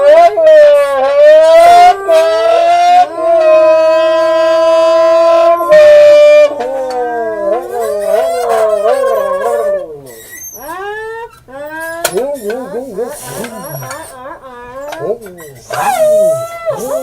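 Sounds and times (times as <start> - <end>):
voices howling into tin cans: 0.0 - 17.0.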